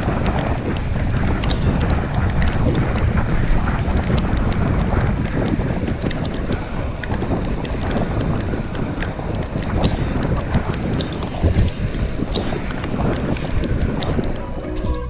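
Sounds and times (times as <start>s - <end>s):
small ticks: 0.0s - 15.0s
wind buffeting microphone: 0.0s - 15.0s.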